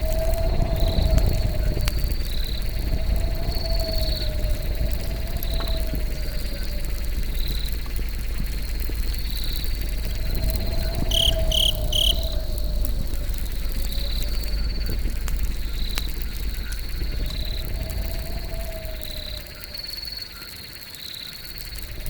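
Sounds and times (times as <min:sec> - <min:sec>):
campfire crackling: 0:00.0 - 0:22.0
crickets chirping: 0:00.0 - 0:22.0.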